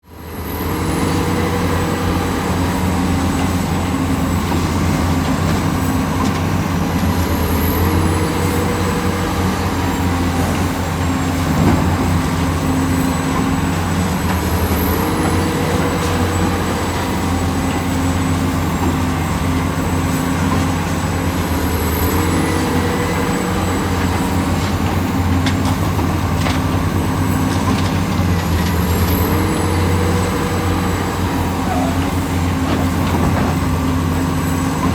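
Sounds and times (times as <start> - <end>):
diesel machinery running: 0.0 - 34.9.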